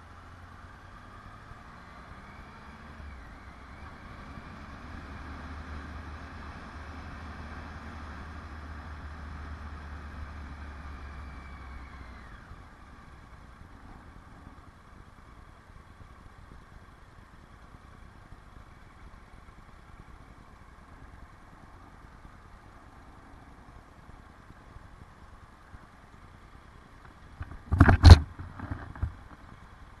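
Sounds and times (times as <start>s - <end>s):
motorcycle engine slowing and idling: 0.0s - 30.0s.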